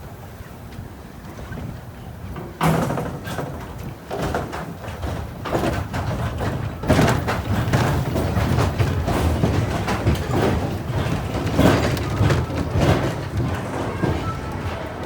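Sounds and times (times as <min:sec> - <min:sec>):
roller coaster cars clattering: 0:00.0 - 0:15.0.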